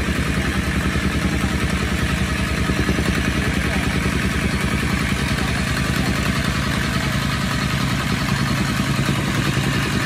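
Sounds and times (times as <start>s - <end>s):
tamping rammer pounding dirt: 0.0s - 10.0s.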